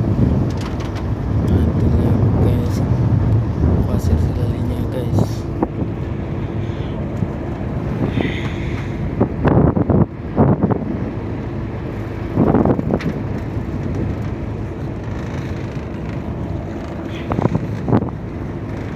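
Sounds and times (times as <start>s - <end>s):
boat engine running: 0.0s - 18.9s
wind buffeting microphone: 0.0s - 18.9s.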